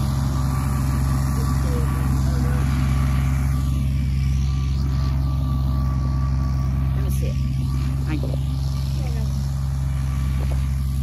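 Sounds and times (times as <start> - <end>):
rotary cutter mowing grass: 0.0 - 11.0
tractor engine running: 0.0 - 11.0.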